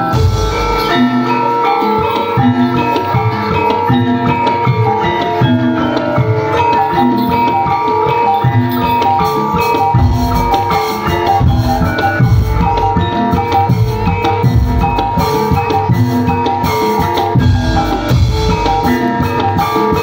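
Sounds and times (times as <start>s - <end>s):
loud dense drumming: 0.0s - 5.7s, 7.9s - 20.0s
tuned metal percussion melody: 0.0s - 20.0s.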